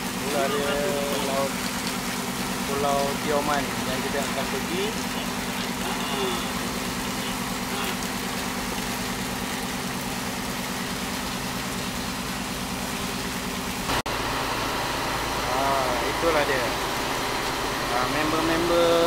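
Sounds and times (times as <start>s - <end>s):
boat engine droning: 0.0s - 19.0s
sea water rushing along hull: 0.0s - 19.0s.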